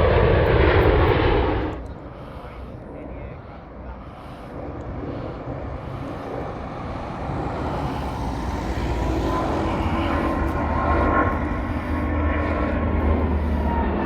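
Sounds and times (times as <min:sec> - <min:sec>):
aircraft engine rumble: 0:00.0 - 0:14.0
faint steady whine: 0:00.0 - 0:14.0.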